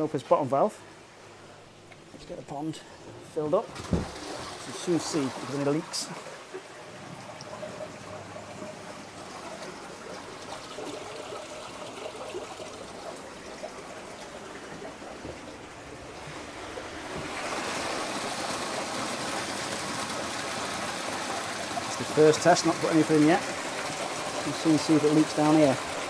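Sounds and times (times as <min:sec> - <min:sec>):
water trickling and rushing: 0:00.9 - 0:26.0.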